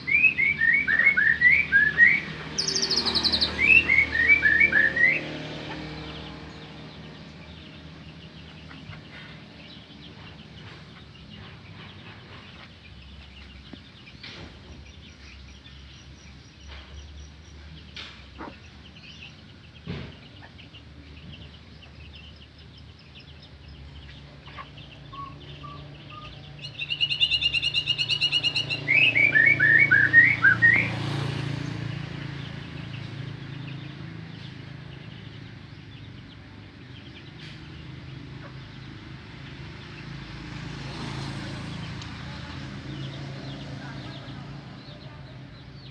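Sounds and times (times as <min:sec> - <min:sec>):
bird singing: 0:00.0 - 0:45.9.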